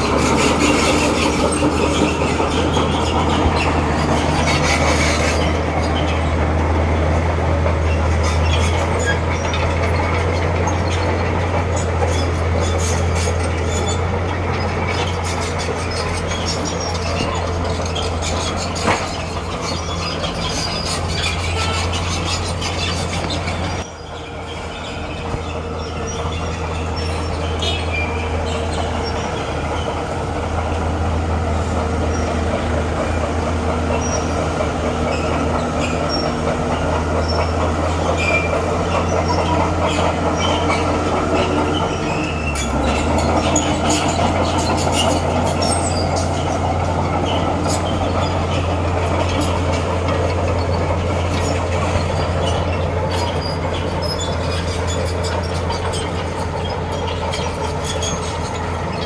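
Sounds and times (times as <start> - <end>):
crawler tracks squealing and clanking: 0.0 - 59.0
diesel engine running: 0.0 - 59.0.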